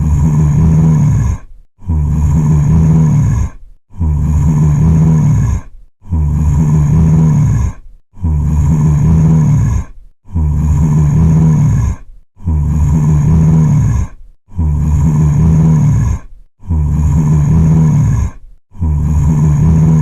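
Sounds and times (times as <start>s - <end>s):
low guttural groan: 0.0s - 20.0s.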